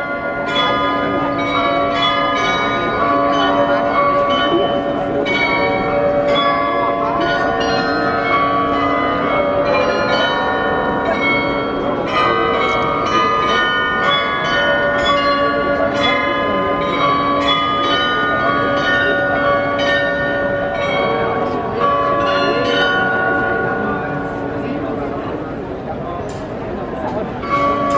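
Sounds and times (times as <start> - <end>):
tuned bells playing a tune: 0.0 - 25.1, 27.4 - 27.9.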